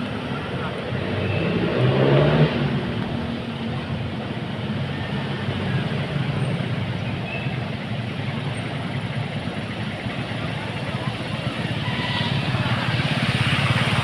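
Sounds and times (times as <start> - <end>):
road traffic noise: 0.0 - 14.0
vehicle engine: 0.0 - 14.0.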